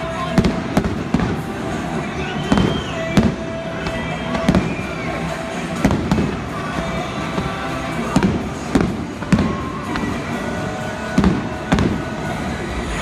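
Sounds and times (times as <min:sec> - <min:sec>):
fireworks shells bursting: 0:00.0 - 0:12.5
music playing: 0:00.0 - 0:13.0.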